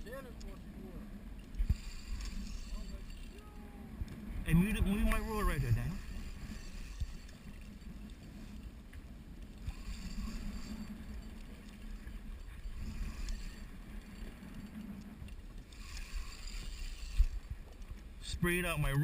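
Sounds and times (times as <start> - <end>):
boat engine rumbling: 0.0 - 19.0
faint hum: 0.0 - 19.0.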